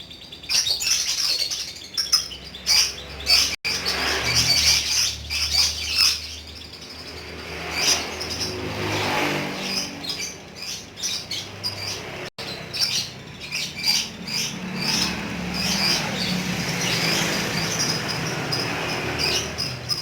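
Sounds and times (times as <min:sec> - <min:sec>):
lovebird chirping: 0:00.0 - 0:20.0.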